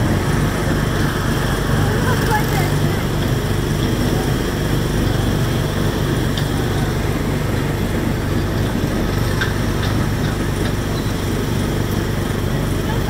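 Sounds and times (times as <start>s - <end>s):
small engine droning: 0.0s - 13.0s.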